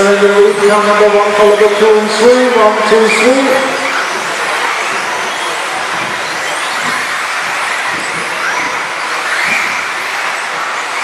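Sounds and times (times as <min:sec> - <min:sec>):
electric motors whining: 0:00.3 - 0:11.0.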